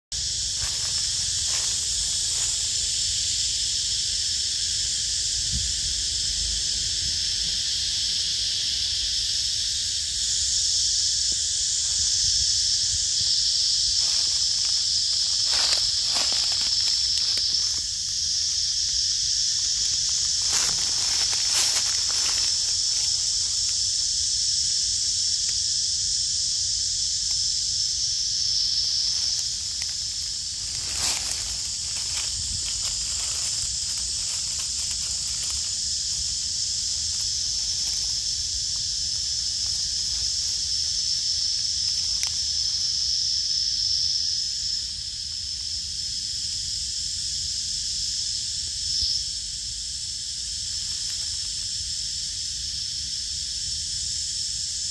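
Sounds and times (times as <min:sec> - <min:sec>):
insect chorus drone: 0:00.0 - 0:54.9
rustles in dry leaves: 0:00.1 - 0:54.9.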